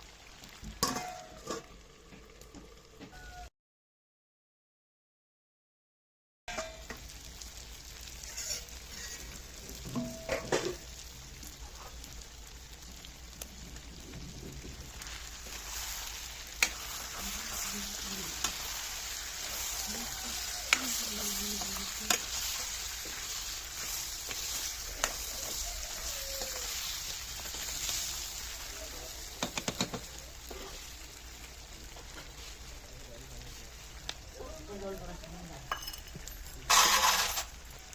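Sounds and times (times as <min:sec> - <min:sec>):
food sizzling in oil: 0:00.0 - 0:03.5, 0:06.5 - 0:37.9.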